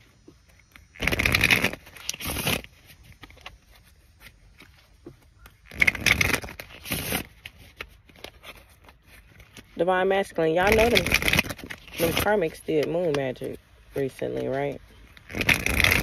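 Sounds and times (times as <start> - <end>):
rustling scraping close to microphone: 0.0 - 16.0.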